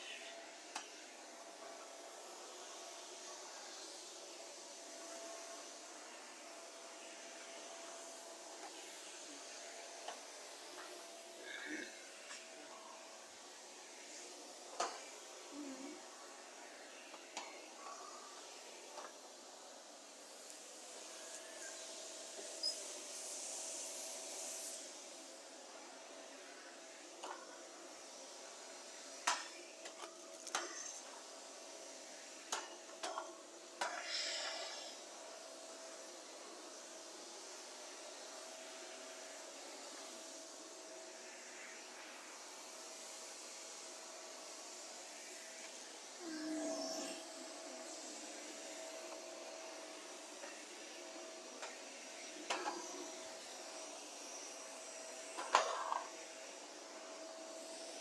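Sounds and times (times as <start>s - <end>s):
faint hiss and hum: 0.0s - 58.0s
vacuum cleaner whirring: 0.0s - 58.0s.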